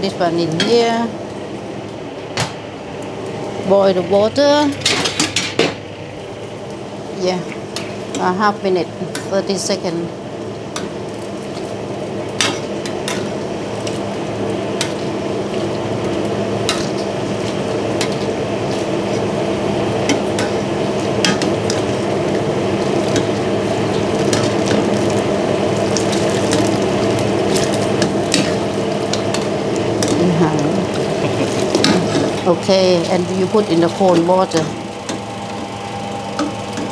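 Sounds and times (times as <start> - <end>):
water boiling in a wok: 0.0 - 36.9.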